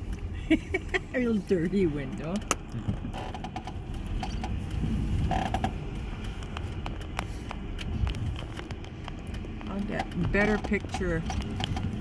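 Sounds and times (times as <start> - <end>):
cab creaks and clicks: 0.0 - 12.0
truck engine rumble: 0.0 - 12.0.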